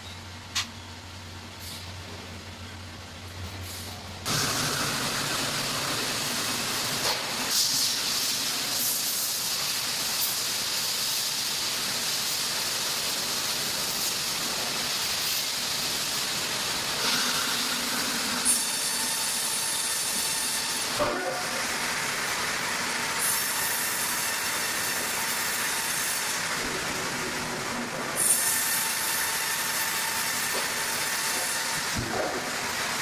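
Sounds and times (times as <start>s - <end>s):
loud steady hiss: 0.0s - 33.0s
sawmill machinery hum: 0.0s - 33.0s.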